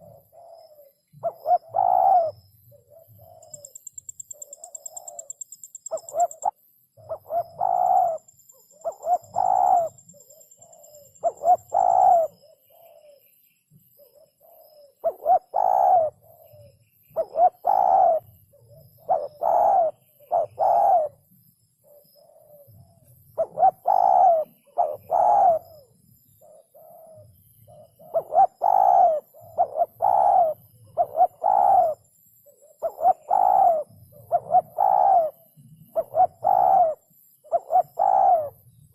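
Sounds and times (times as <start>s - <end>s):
dove cooing: 0.0s - 13.3s, 14.0s - 21.2s, 21.8s - 38.7s.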